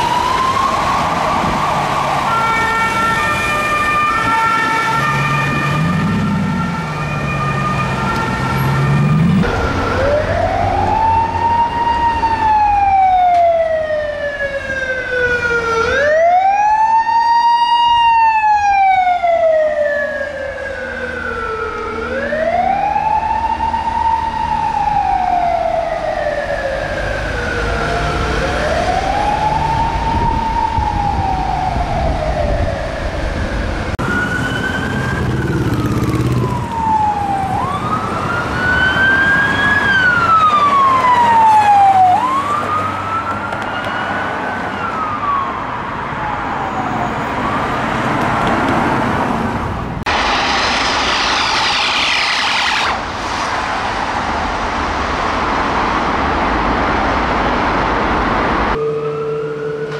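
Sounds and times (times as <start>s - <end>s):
police siren switching tones: 0.0s - 47.8s, 50.1s - 53.0s
police wail siren: 0.0s - 49.3s, 50.0s - 59.9s.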